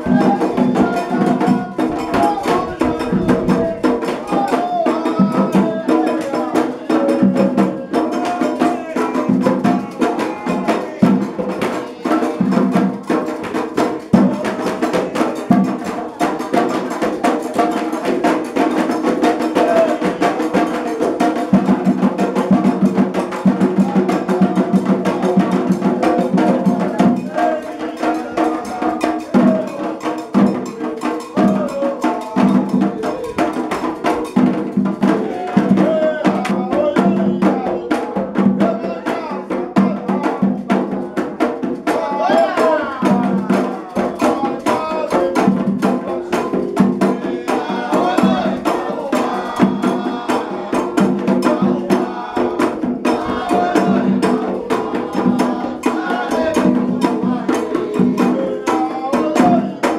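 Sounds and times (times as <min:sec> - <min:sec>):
drums: 0:00.0 - 0:59.9
sharp struck percussion: 0:00.0 - 0:59.9
voices singing a chant: 0:00.0 - 0:59.9.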